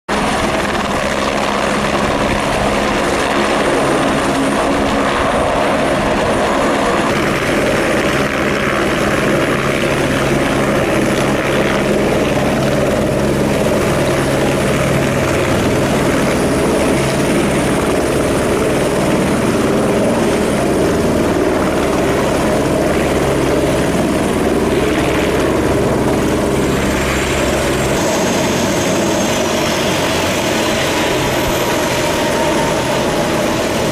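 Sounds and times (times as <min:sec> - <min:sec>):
helicopter rotor beating: 0:00.1 - 0:33.9
high turbine whine: 0:00.1 - 0:33.9.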